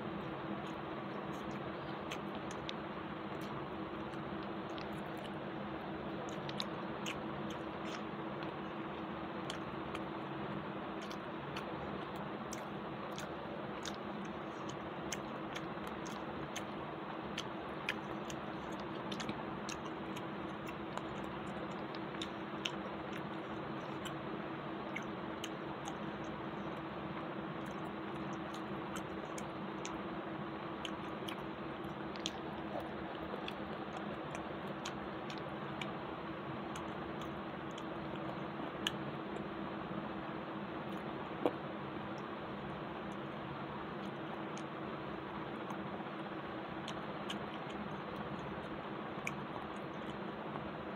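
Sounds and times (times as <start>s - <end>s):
low hum and hiss: 0.0s - 50.9s
person chewing with mouth clicks: 0.1s - 39.5s, 40.8s - 50.8s.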